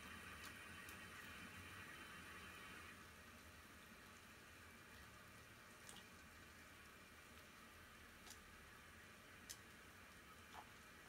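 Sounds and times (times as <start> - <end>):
water gently boiling in pot: 0.0 - 11.0.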